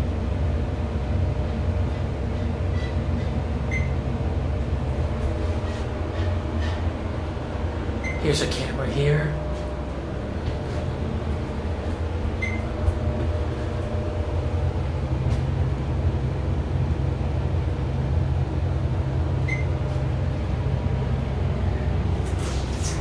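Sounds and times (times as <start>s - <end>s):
elevator hum and rumble: 0.0s - 23.0s.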